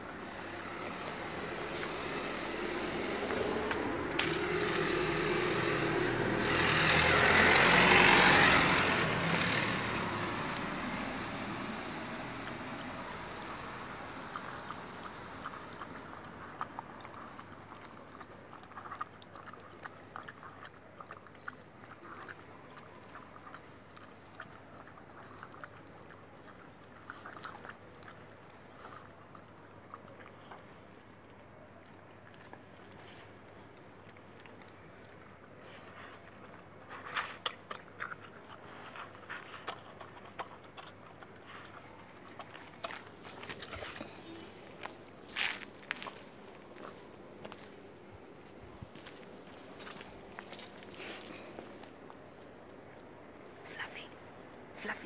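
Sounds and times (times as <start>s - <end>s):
dog chewing food: 0.0s - 5.9s, 11.2s - 53.5s.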